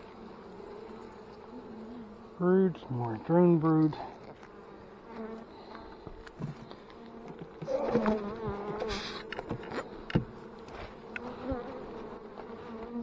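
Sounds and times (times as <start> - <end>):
bee flying past: 0.0 - 13.0
bees buzzing: 0.0 - 13.0.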